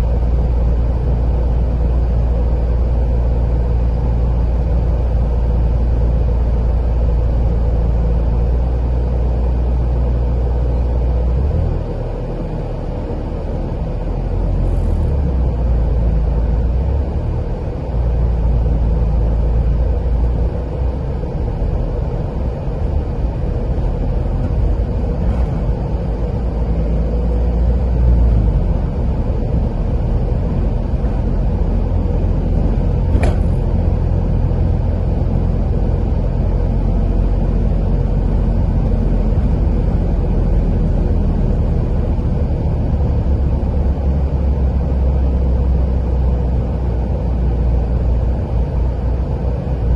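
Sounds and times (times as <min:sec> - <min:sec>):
car tyres and engine rumble: 0:00.0 - 0:49.9.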